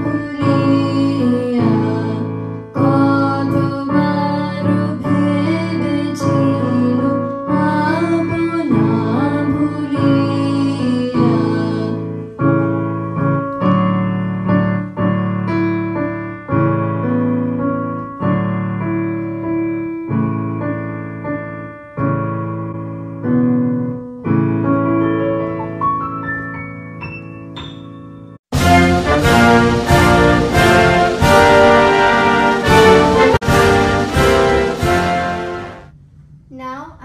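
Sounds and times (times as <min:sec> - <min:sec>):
digital piano chords: 0:00.0 - 0:36.0.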